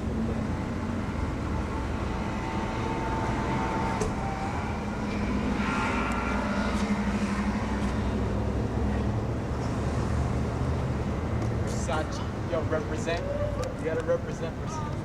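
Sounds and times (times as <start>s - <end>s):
motor vehicles rumbling: 0.0s - 15.0s.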